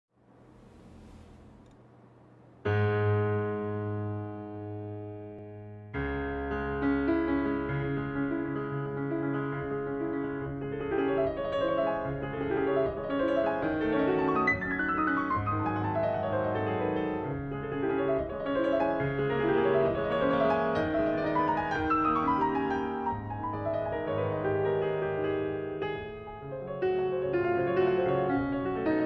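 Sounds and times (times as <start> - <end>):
piano music: 2.6 - 29.0.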